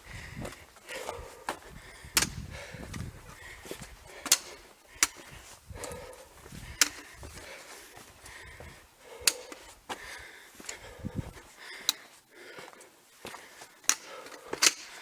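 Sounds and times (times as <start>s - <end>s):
footsteps on stony ground: 0.0s - 15.0s.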